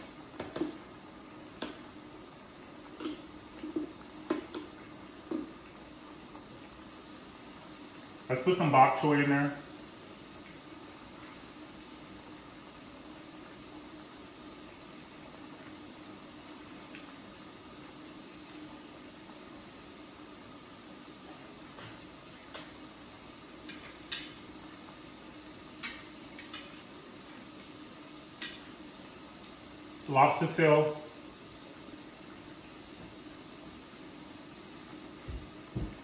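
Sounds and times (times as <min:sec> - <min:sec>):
broth simmering and food sizzling: 0:00.0 - 0:36.0.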